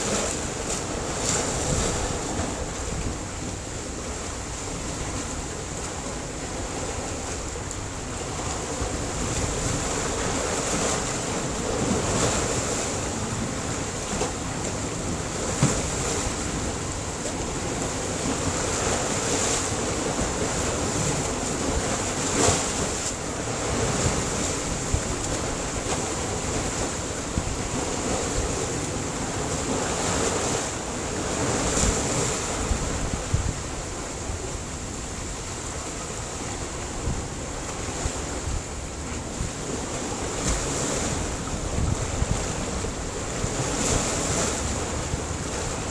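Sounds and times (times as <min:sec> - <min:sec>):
sea waves crashing on rocks: 0:00.0 - 0:45.9.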